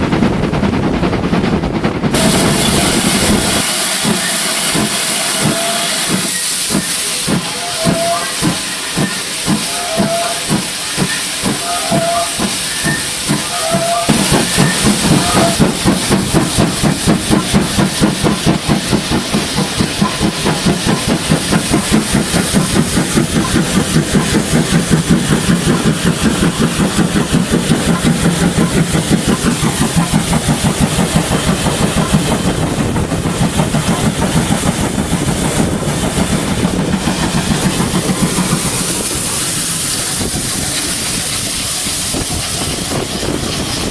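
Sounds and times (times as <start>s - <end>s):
steam locomotive chuffing: 0.0s - 43.9s
hiss of steam: 2.1s - 43.9s.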